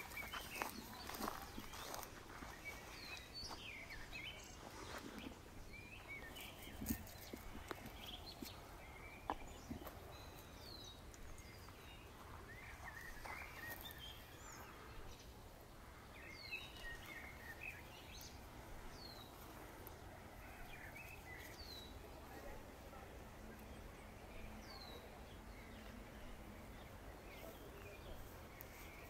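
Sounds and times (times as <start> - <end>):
branches rustling: 0.0 - 15.2, 15.8 - 23.9, 25.8 - 29.0
songbirds chirping: 0.0 - 29.0.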